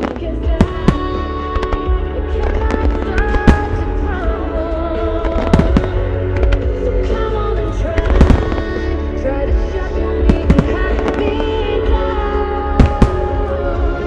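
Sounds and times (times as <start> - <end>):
fireworks booming and crackling: 0.0 - 7.2, 7.9 - 14.0
music over loudspeakers: 0.0 - 14.0.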